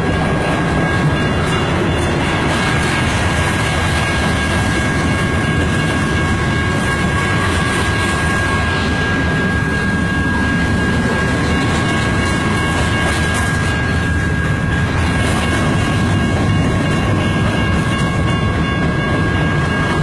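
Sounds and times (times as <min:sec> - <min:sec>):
steady high tone: 0:00.0 - 0:20.0
train wheels rumbling on rail: 0:00.0 - 0:20.0.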